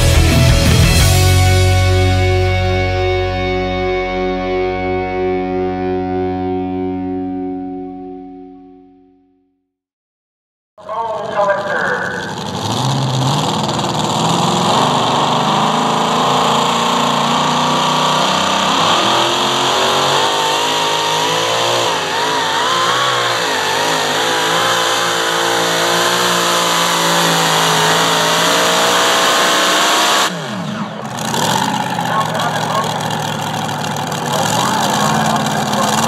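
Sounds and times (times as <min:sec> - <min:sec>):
tractor engine at full power: 0:00.0 - 0:07.4, 0:10.8 - 0:36.0.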